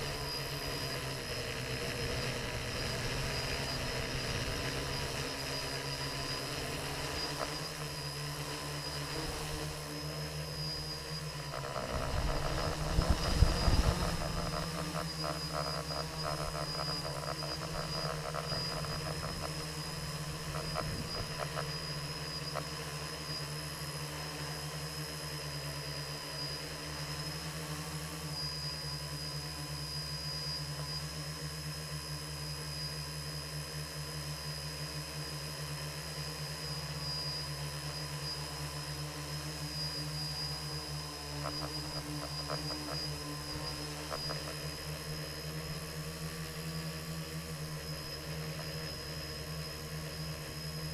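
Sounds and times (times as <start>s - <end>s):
drone motors whining: 0.0s - 50.9s.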